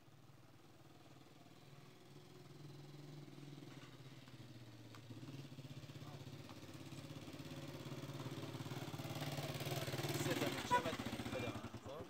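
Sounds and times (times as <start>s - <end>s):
small engine running: 1.5s - 12.0s.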